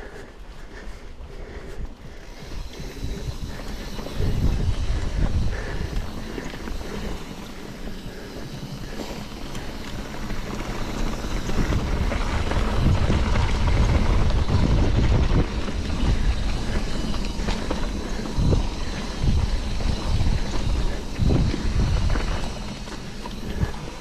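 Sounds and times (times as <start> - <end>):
bike jolts: 0.0 - 24.0
bike tyre rumble on dirt: 0.0 - 24.0
wind buffeting microphone: 1.1 - 24.0.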